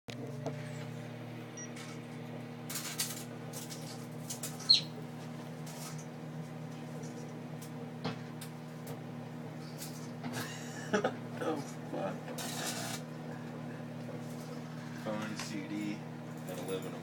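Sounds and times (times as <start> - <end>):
microwave oven humming: 0.1 - 17.0.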